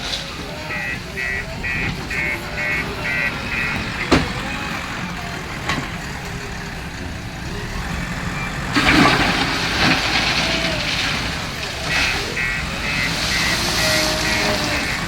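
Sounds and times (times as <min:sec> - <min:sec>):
diesel engine running: 0:00.0 - 0:15.0
reversing alarm beeping: 0:00.0 - 0:15.0.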